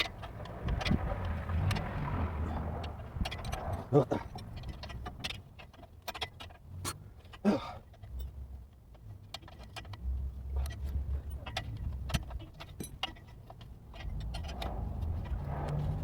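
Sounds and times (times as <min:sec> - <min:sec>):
low rumbling and scraping: 0:00.0 - 0:07.3, 0:08.0 - 0:16.0
metallic clinks of wrenches: 0:00.0 - 0:16.0.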